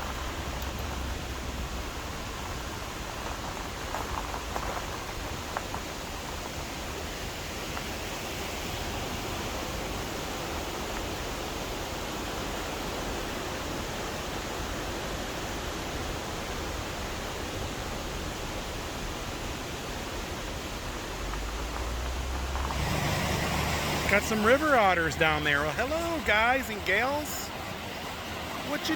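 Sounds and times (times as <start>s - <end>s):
river cascade rushing: 0.0s - 28.9s.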